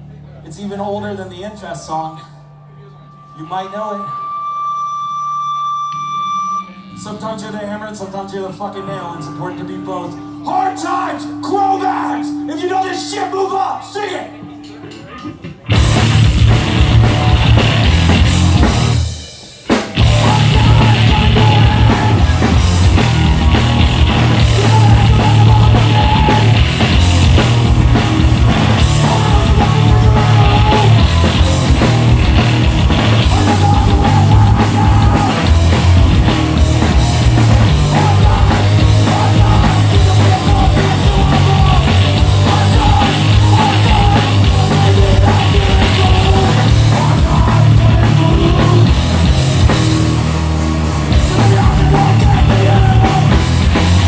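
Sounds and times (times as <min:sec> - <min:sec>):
punk band playing live: 0:06.8 - 0:54.0.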